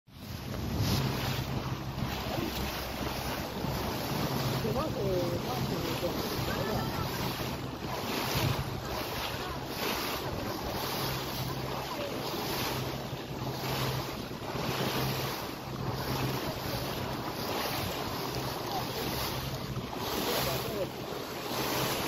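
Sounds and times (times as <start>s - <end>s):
water rushing past boat hull: 0.1s - 22.0s
wind buffeting microphone: 0.1s - 22.0s.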